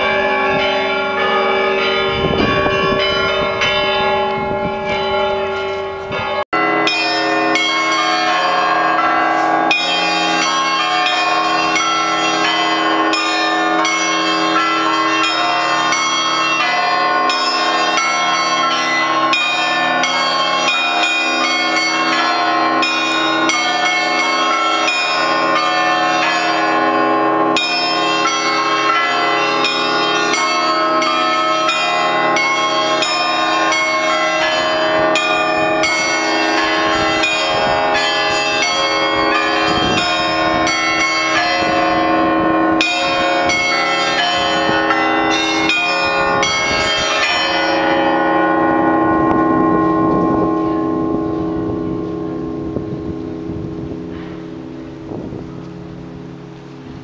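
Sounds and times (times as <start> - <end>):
large church bells ringing: 0.0 - 57.0
small church bells striking quickly: 0.0 - 57.0.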